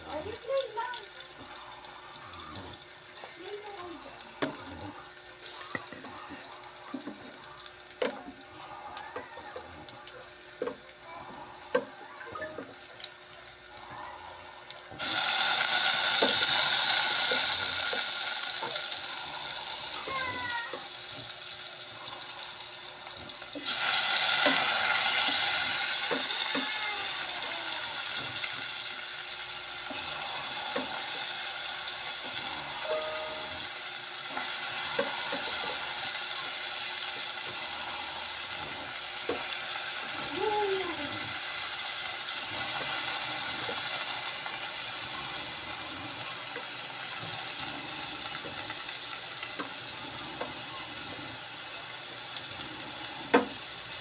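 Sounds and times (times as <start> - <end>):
meat sizzling loudly: 0.0 - 54.0
onion and garlic frying: 0.0 - 54.0.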